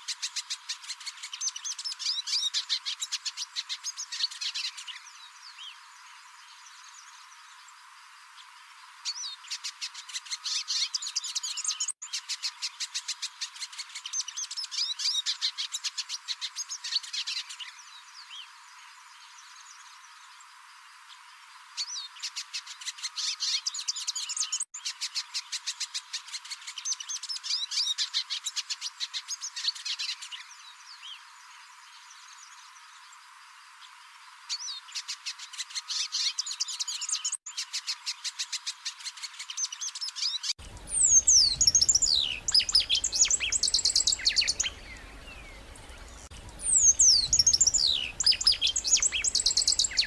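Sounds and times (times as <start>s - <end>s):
songbird singing: 0.0s - 50.0s.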